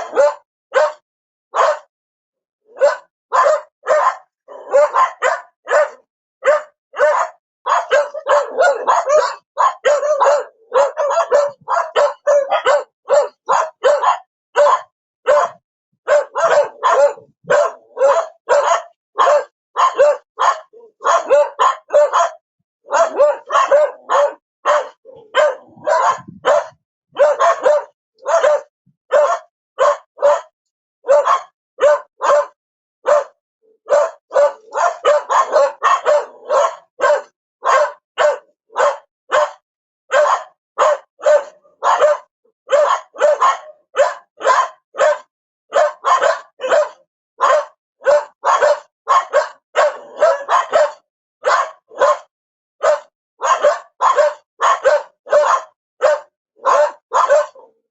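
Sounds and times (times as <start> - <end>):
dog barking: 0.0 - 1.9, 2.6 - 57.9.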